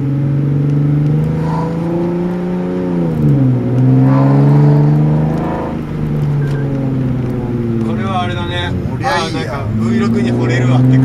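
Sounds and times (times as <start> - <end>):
car engine under steady throttle: 0.0 - 11.0.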